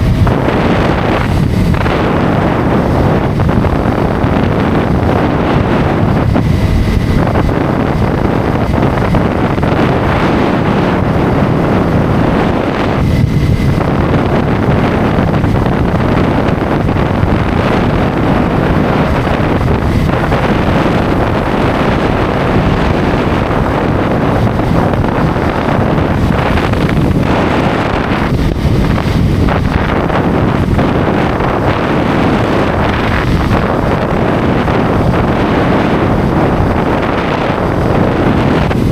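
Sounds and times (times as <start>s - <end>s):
motorcycle engine: 0.0s - 38.9s
road noise: 0.0s - 38.9s
wind roaring over microphone: 0.0s - 38.9s.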